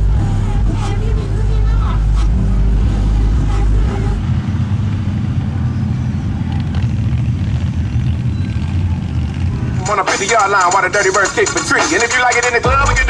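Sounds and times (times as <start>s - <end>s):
deep bass rumble: 0.0s - 13.0s
truck engine rough rumble: 0.0s - 13.0s.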